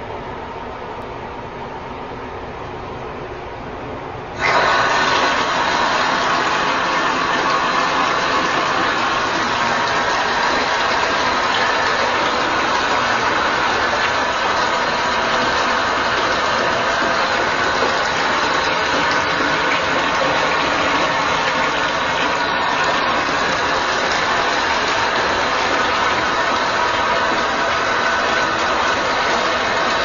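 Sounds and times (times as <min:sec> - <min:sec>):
machine-like hum: 0:00.0 - 0:30.0
water rushing into bathtub: 0:04.4 - 0:30.0.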